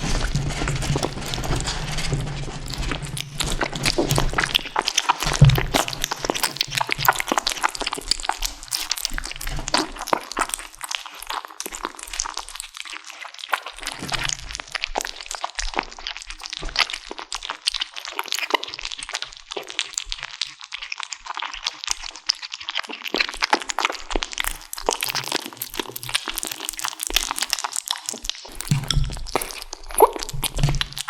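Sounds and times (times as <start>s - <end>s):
kittens crunching on a bone: 0.0s - 31.0s.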